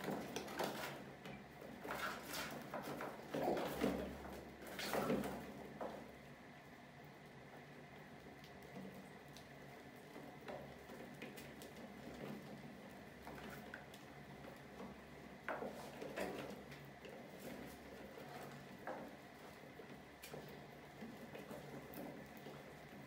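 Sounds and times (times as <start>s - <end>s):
mice scratching and tapping: 0.0s - 6.3s, 8.2s - 23.0s.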